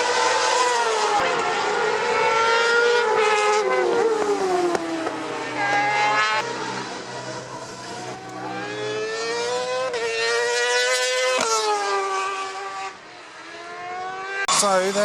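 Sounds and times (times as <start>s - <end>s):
racing motorcycles at high revs: 0.0s - 15.0s.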